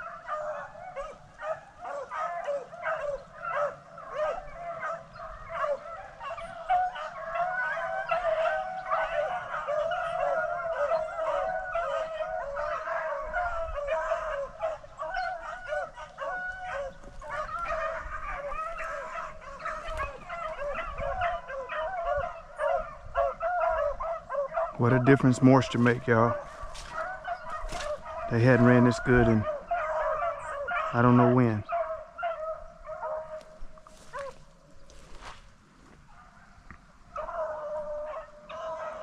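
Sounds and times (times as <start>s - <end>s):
pack of dogs baying: 0.0s - 35.4s, 36.0s - 39.0s.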